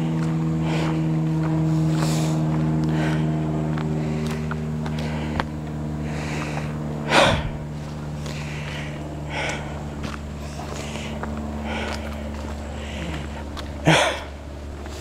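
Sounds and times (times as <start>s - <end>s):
footsteps: 0.0s - 15.0s
steady engine hum: 0.0s - 15.0s
person breathing: 0.5s - 15.0s.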